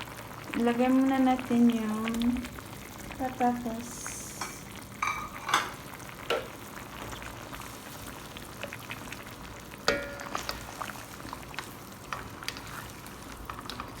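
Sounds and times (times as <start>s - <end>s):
food simmering and bubbling in pan: 0.0s - 14.0s.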